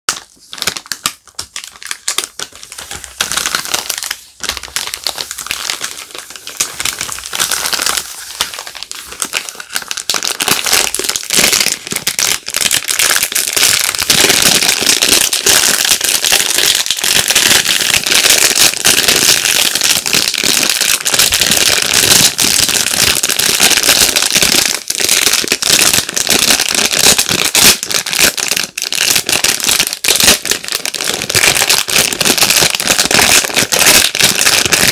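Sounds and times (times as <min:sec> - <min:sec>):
packaging crinkling: 0:00.1 - 0:34.9.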